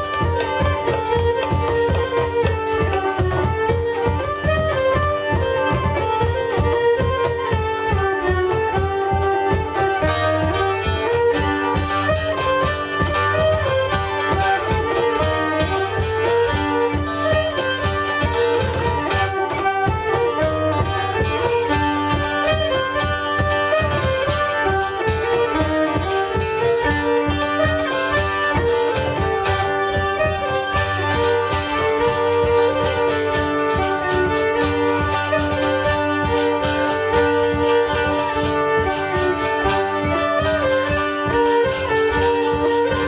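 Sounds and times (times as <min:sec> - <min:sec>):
acoustic guitar: 0:00.0 - 0:43.0
cajon beat: 0:00.0 - 0:43.0
fiddle melody: 0:00.0 - 0:43.0.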